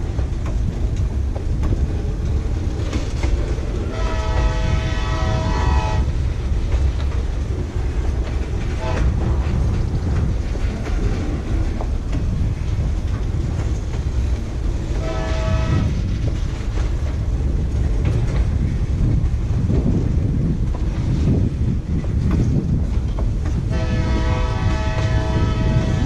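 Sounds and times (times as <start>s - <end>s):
rail clicks and clatter: 0.0s - 26.0s
train rumbling past: 0.0s - 26.0s.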